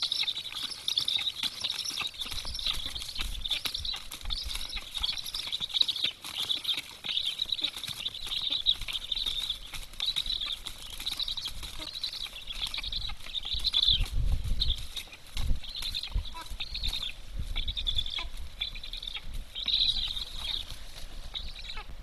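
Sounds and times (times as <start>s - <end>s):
wings flapping on nest: 0.0s - 18.4s
high rasping bird calls: 0.0s - 22.0s.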